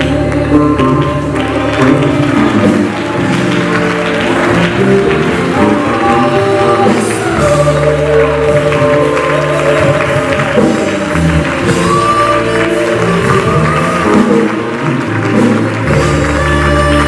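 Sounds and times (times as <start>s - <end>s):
woman singing lead: 0.0s - 3.2s, 4.7s - 17.0s
backing singers: 0.0s - 17.0s
band with bass and keyboard: 0.0s - 17.0s.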